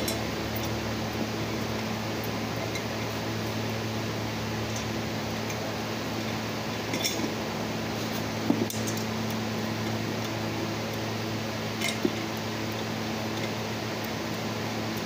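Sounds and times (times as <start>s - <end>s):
electric fan hum: 0.0s - 15.0s.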